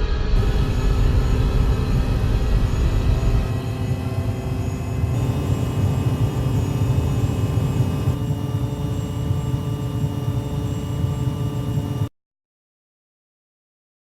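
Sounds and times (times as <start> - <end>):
air raid sirens: 0.4 - 12.1.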